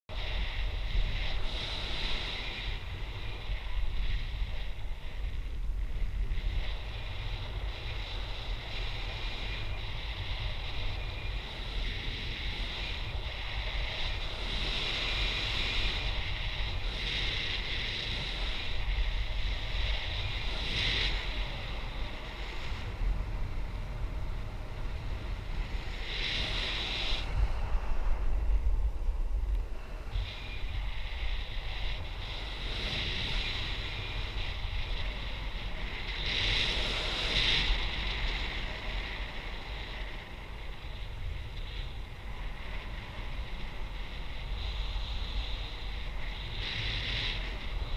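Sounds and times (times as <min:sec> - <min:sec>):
wind buffeting microphone: 0:00.1 - 0:47.9.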